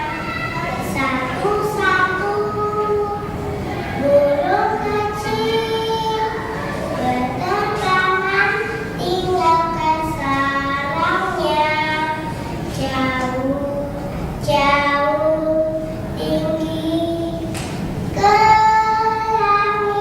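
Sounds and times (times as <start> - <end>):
child singing: 0.0 - 20.0.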